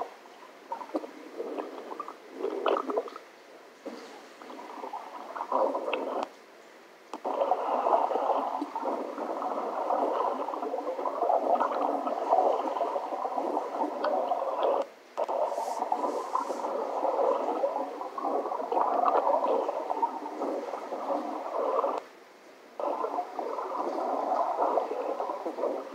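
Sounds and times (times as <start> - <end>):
muffled underwater water rushing: 0.0 - 25.9.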